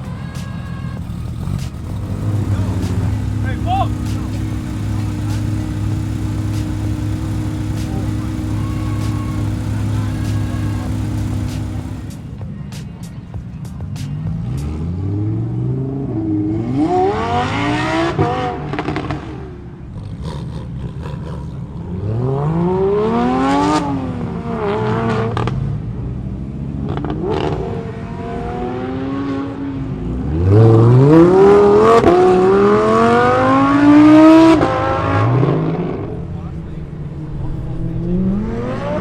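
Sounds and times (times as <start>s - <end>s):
car engines accelerating hard: 0.0s - 39.0s.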